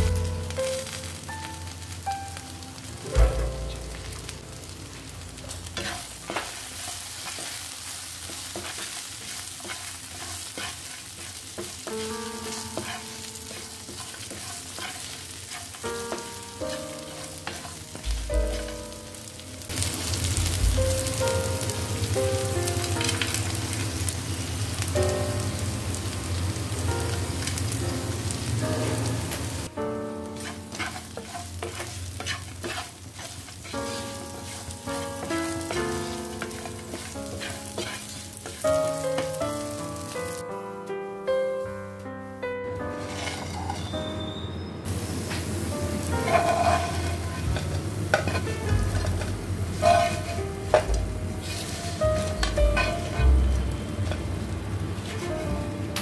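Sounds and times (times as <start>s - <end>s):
food sizzling in oil: 0.0s - 40.5s, 42.7s - 56.0s.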